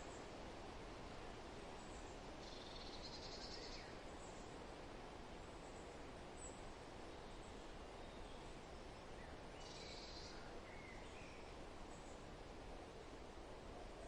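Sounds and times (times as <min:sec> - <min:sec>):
wind rustling: 0:00.0 - 0:14.0.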